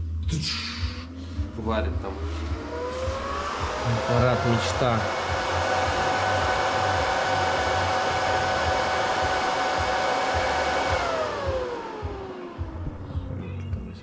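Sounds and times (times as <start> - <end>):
cooling fan whirring: 0.0 - 14.0.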